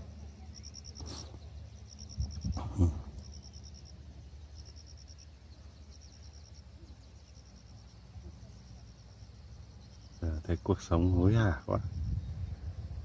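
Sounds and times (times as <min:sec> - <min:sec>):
insects chirping in trills: 0:00.0 - 0:13.0
low background rumble: 0:00.0 - 0:13.0.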